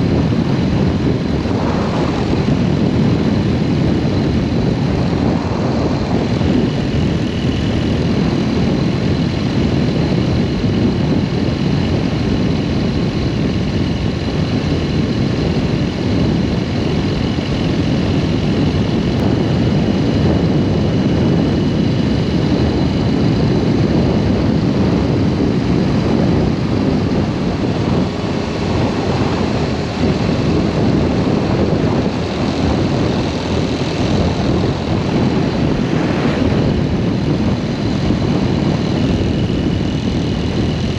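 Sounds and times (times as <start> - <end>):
motorcycle engine droning: 0.0 - 40.9
wind rushing over microphone: 0.0 - 40.9.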